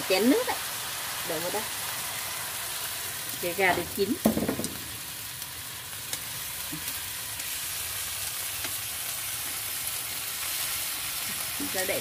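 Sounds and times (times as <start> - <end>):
chicken sizzling in frying pan: 0.0 - 12.0.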